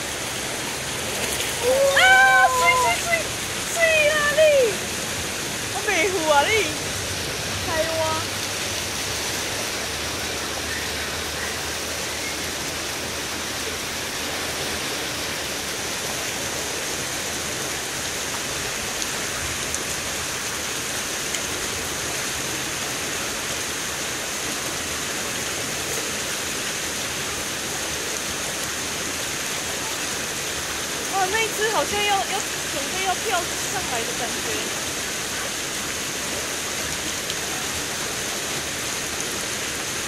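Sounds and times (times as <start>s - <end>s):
water rushing over concrete steps: 0.0s - 40.0s.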